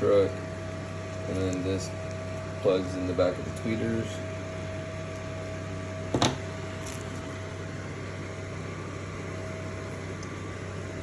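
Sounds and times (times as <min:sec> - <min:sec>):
mechanical hum with whine: 0:00.0 - 0:11.0.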